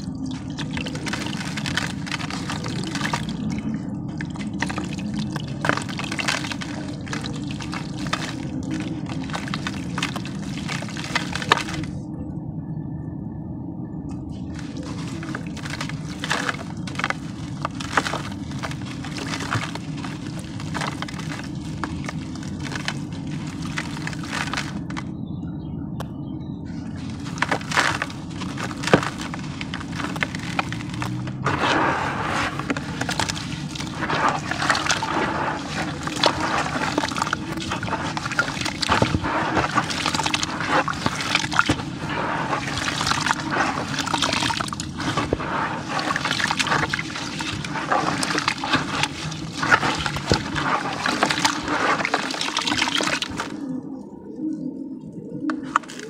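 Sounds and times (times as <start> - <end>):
dry sand crunching: 0.0 - 12.0, 14.4 - 25.1, 26.8 - 53.7
wet sand squishing: 0.0 - 12.1, 14.3 - 25.1, 26.7 - 53.8, 55.4 - 56.0
steady low hum: 0.0 - 56.0.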